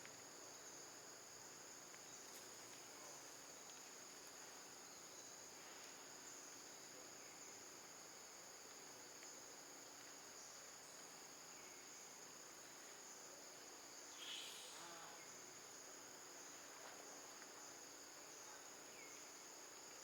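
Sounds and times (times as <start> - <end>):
high-pitched insect chorus: 0.4 - 20.0.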